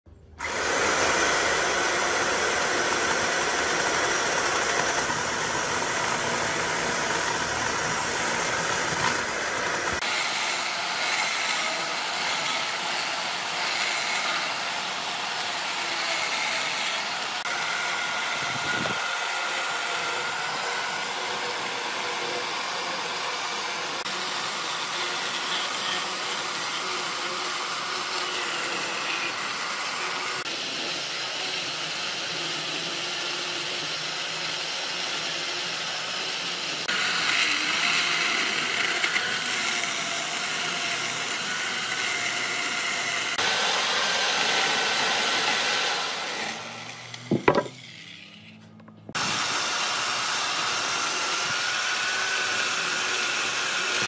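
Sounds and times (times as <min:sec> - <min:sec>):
power tool motor whirring: 0:00.4 - 0:54.0.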